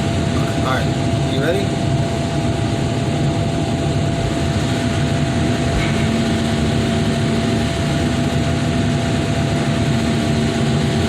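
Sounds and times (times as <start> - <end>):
diesel engine running: 0.0 - 11.0
faint steady whine: 0.0 - 11.0.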